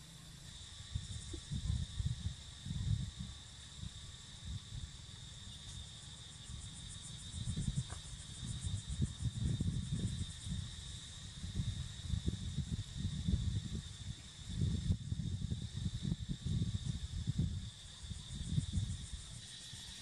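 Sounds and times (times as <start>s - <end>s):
insect pulsing trill: 0.0s - 20.0s
insects high-pitched drone: 0.0s - 20.0s.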